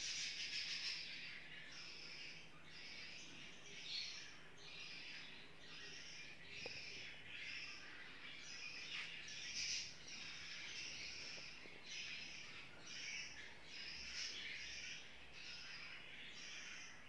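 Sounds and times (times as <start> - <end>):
pet birds chirping: 0.0 - 17.0.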